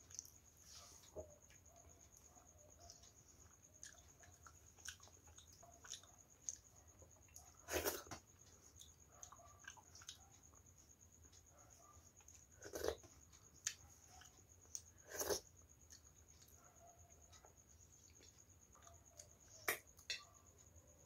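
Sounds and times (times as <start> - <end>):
soft chewing smacks and clicks: 0.0 - 20.8.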